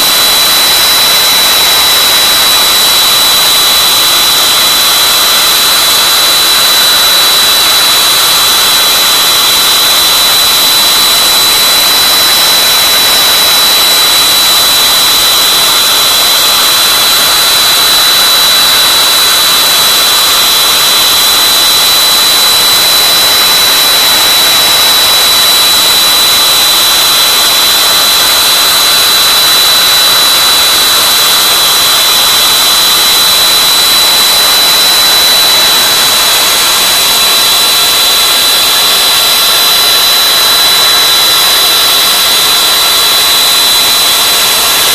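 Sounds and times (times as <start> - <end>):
router spindle high-pitched whine: 0.0 - 44.9.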